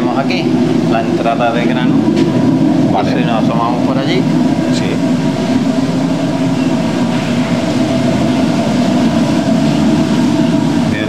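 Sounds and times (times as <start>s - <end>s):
stone mill rumbling: 0.0s - 11.0s.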